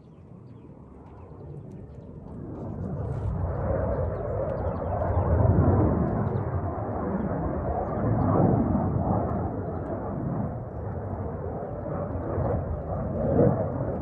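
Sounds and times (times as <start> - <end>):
jet engine rumbling overhead: 0.0 - 14.0.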